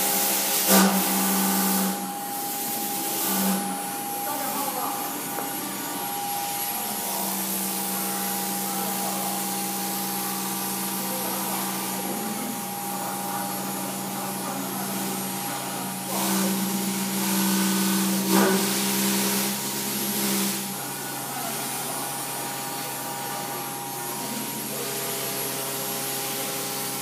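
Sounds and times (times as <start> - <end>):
router spindle humming and hissing: 0.0 - 27.0.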